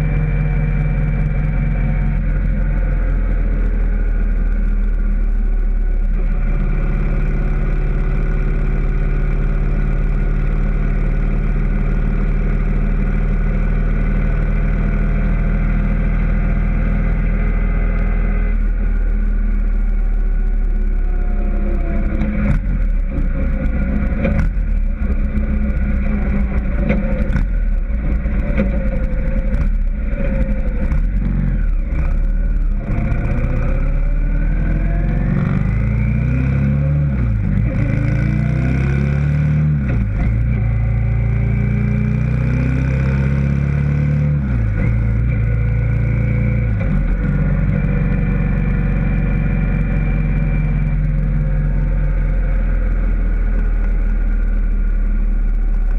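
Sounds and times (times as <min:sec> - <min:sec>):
engine accelerating and changing gear: 0:00.0 - 0:55.9
vehicle engines on a road: 0:00.0 - 0:55.9.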